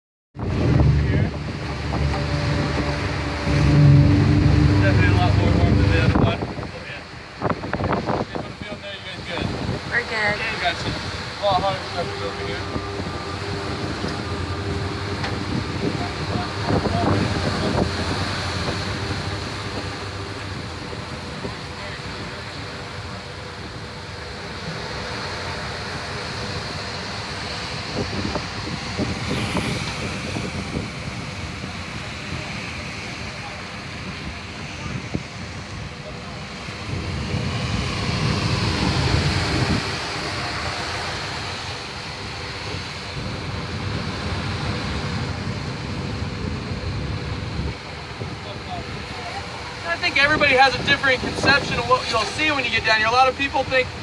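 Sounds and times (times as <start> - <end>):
boat engine running: 0.4 - 54.0
sea waves: 0.4 - 54.0
wind: 0.4 - 54.0.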